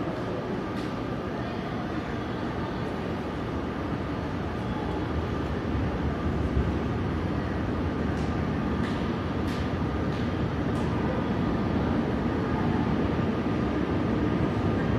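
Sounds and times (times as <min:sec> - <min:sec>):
electric train rumble: 0:00.0 - 0:14.9.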